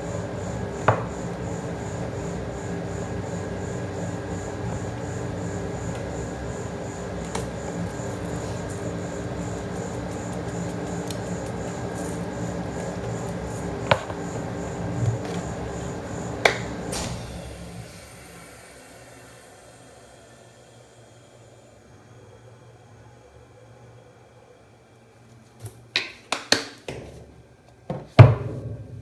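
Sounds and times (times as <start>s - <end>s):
refrigeration machine hum: 0.0s - 26.0s.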